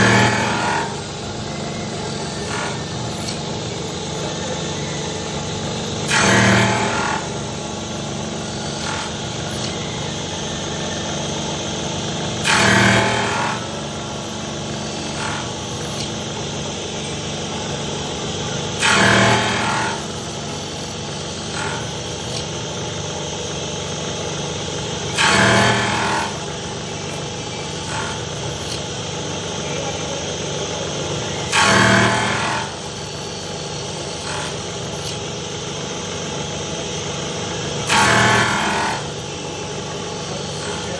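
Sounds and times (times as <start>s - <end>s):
cutter milling steel shaft: 0.0s - 40.9s
milling machine humming: 0.0s - 40.9s.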